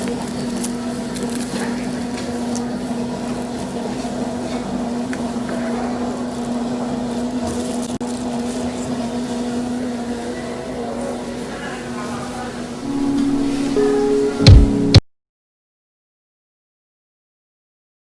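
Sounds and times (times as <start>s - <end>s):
mechanical hum: 0.0s - 15.0s
noisy background: 0.0s - 15.0s.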